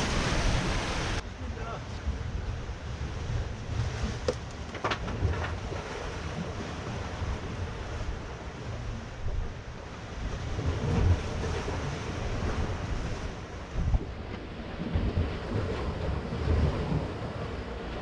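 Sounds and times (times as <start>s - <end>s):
sea surf: 0.0s - 18.0s
wind buffeting microphone: 1.9s - 18.0s.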